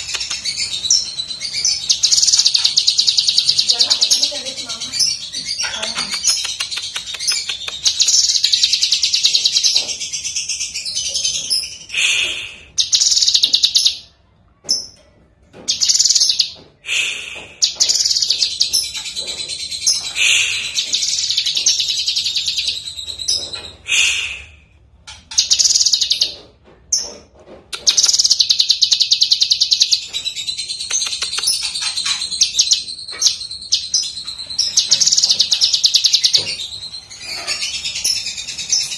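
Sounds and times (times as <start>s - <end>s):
bird chattering song: 0.0s - 14.1s, 15.7s - 24.4s, 25.1s - 26.4s, 27.8s - 38.9s.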